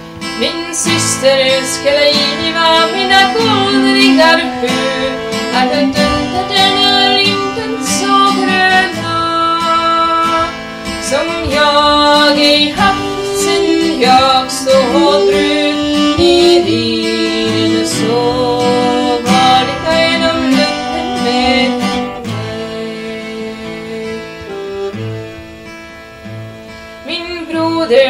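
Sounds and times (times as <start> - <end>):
fiddle: 0.0 - 28.0
strummed acoustic guitar: 0.0 - 28.0.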